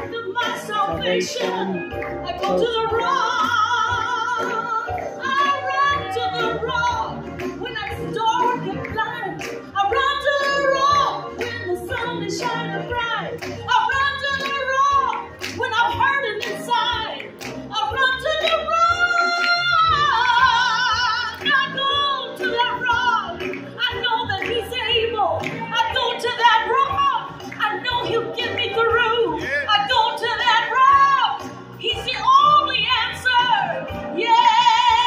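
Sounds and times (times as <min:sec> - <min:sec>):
woman singing into microphone: 0:00.0 - 0:35.0.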